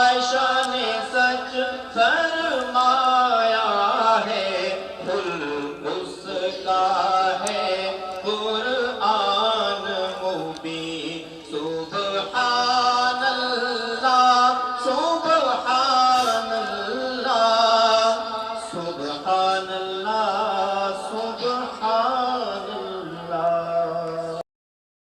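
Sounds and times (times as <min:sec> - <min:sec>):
man singing devotional song: 0:00.0 - 0:24.4.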